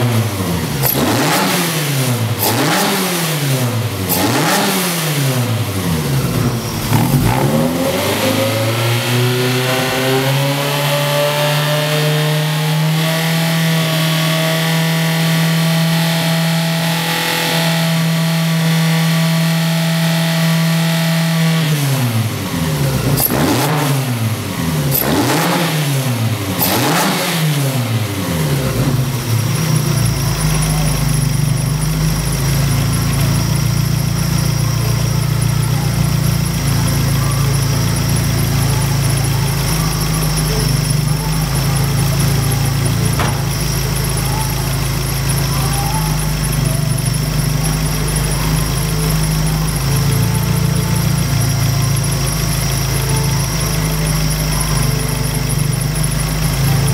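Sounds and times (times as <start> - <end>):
car engine revving and idling: 0.0 - 56.9.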